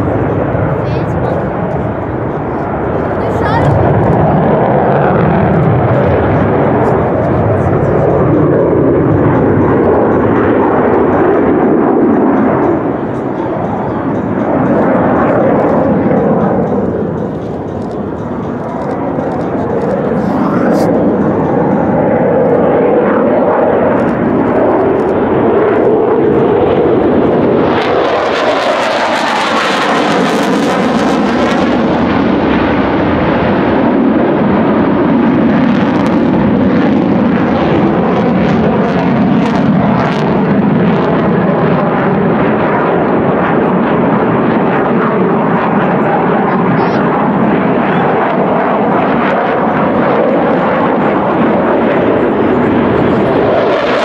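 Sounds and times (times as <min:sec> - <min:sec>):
jet passing whoosh: 0:00.0 - 0:45.1
jet engine noise: 0:00.0 - 0:54.0.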